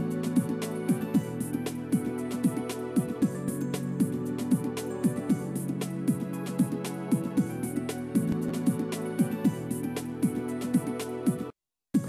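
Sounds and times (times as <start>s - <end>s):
music with electronic beat: 0.0s - 12.0s.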